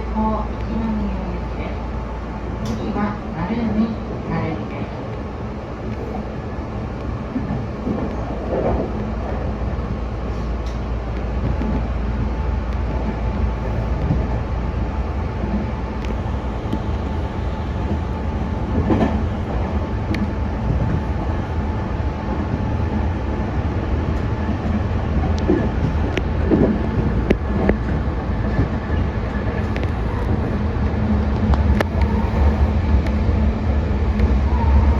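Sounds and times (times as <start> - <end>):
train wheels rumbling: 0.0 - 34.9
rail clicks: 2.6 - 34.9.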